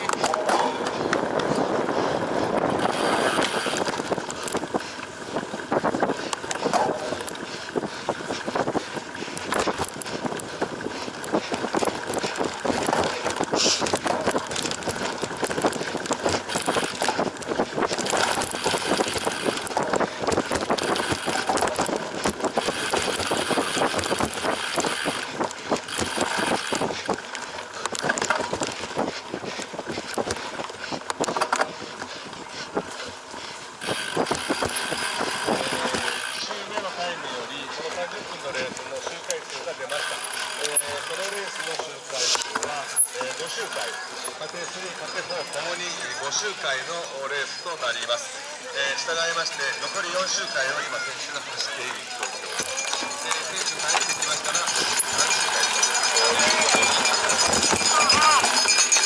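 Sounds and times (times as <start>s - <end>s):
bike knocking and clattering: 0.0s - 46.4s, 51.4s - 59.0s
bike tyres rattling on dirt: 0.0s - 59.0s.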